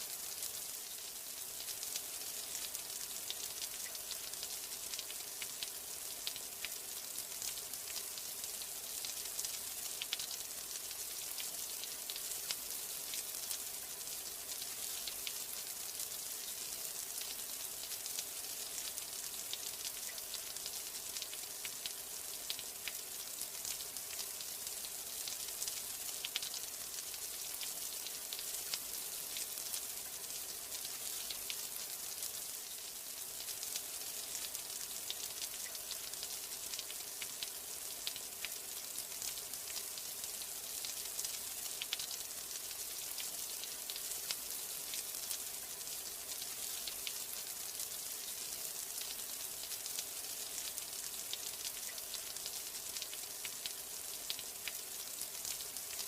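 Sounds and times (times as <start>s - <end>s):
rain drops pattering on surface: 0.0s - 56.0s.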